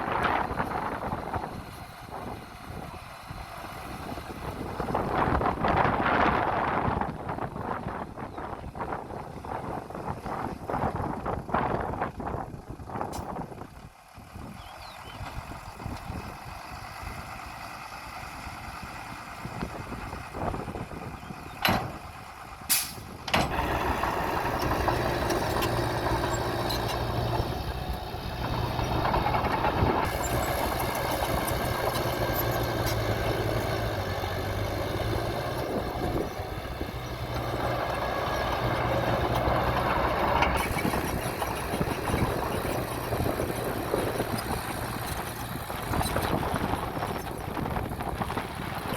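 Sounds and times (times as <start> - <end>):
diesel engine of heavy machinery: 0.0 - 48.9.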